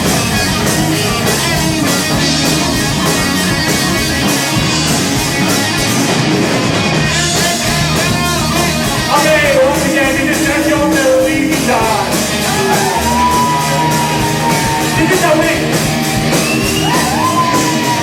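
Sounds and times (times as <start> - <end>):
drum kit: 0.0 - 18.0
electric guitar: 0.0 - 18.0.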